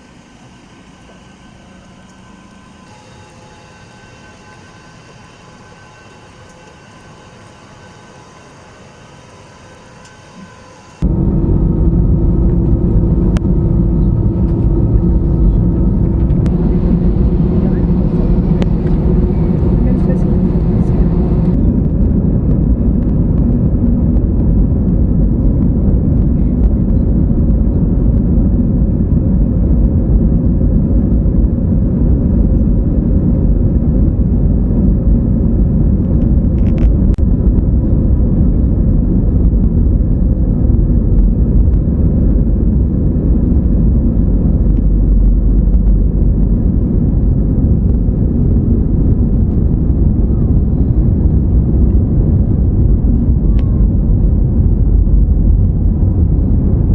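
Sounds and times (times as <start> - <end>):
jet engine low rumble: 0.0 - 56.9.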